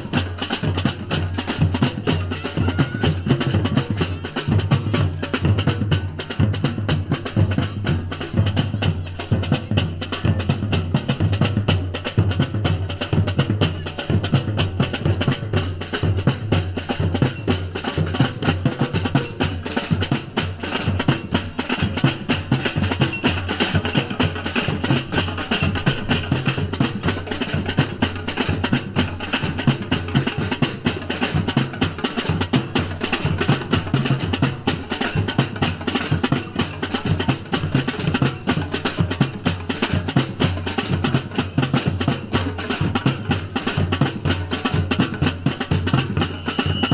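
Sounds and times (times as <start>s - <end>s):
samba percussion ensemble: 0.0s - 46.9s.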